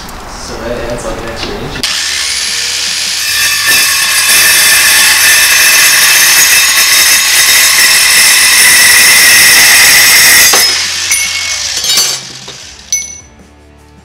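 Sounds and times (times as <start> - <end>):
metal saw cutting steel: 1.8 - 13.2.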